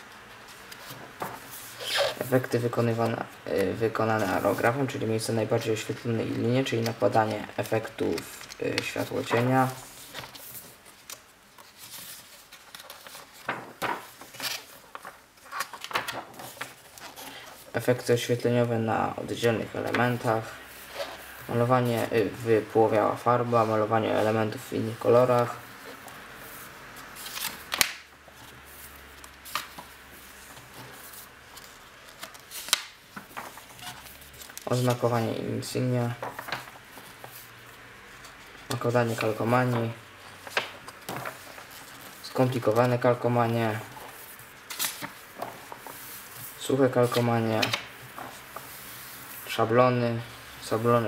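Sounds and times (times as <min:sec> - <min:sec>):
book pages turning: 0:00.0 - 0:51.0.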